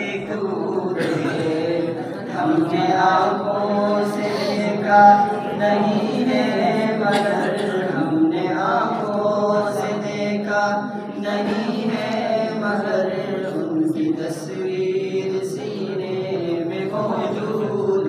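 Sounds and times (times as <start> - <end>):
men chanting unaccompanied: 0.0 - 18.0.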